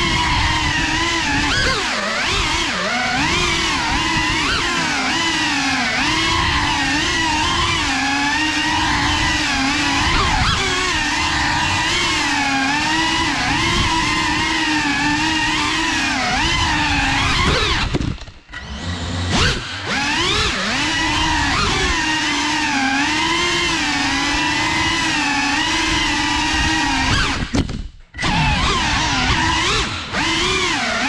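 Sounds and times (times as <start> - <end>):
drone propellers whining: 0.0 - 31.0.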